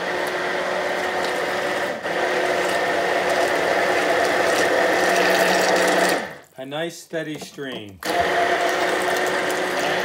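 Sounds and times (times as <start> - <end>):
stick blender running: 0.0 - 6.5, 7.4 - 10.0.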